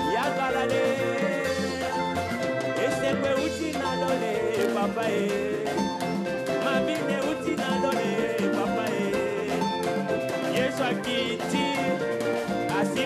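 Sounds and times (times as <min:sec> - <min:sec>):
band playing upbeat song: 0:00.0 - 0:13.0
man singing into a microphone: 0:00.0 - 0:13.0.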